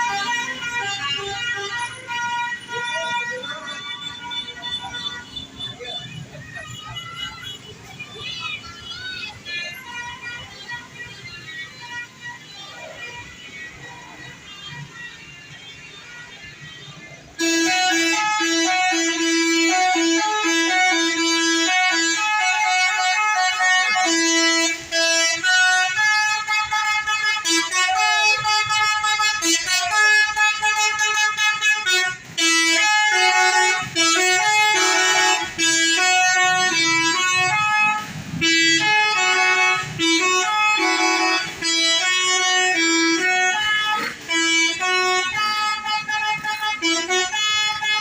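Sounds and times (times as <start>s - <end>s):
multi-tone bus horn playing a tune: 0.0s - 48.0s.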